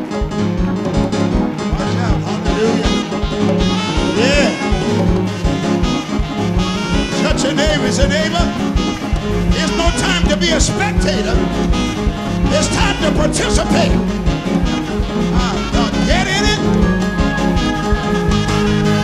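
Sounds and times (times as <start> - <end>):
driving bass line: 0.0 - 19.0
drums fast steady beat: 0.0 - 19.0
gospel church band music: 0.0 - 19.0.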